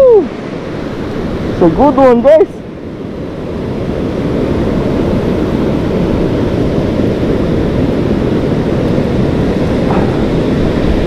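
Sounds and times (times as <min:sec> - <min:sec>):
breaking surf: 0:00.0 - 0:11.0
wind rumble on microphone: 0:00.0 - 0:11.0.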